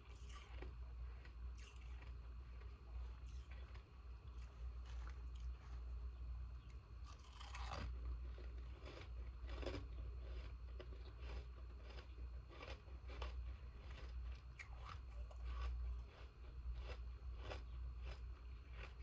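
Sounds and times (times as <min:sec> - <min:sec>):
ice being chewed: 0:00.0 - 0:06.0, 0:06.6 - 0:19.0
steady low hum: 0:00.0 - 0:19.0.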